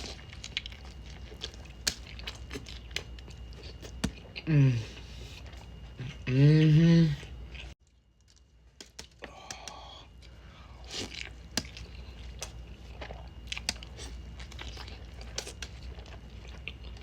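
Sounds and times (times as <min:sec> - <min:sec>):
close chewing: 0:00.0 - 0:17.0.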